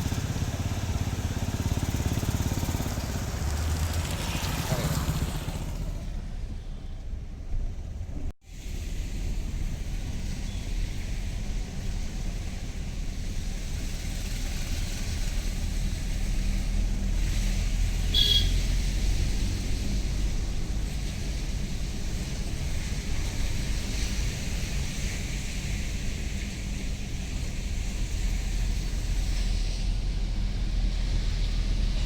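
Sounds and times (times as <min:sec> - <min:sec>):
car road noise rumble: 0:00.0 - 0:32.0.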